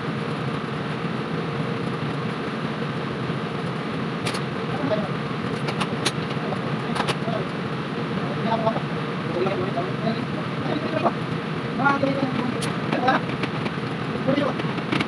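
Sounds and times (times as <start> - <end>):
kitchen equipment rumbling hum: 0.0 - 15.0.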